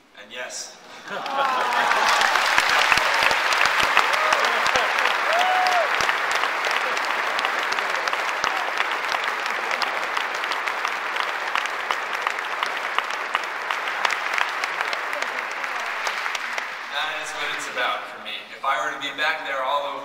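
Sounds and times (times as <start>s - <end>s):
large audience applauding: 0.9s - 18.0s.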